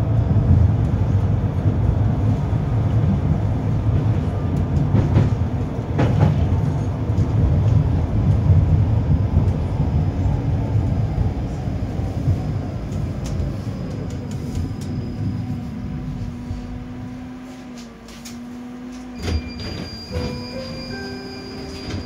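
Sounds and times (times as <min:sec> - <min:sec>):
tram rumbling on rails: 0:00.0 - 0:22.0.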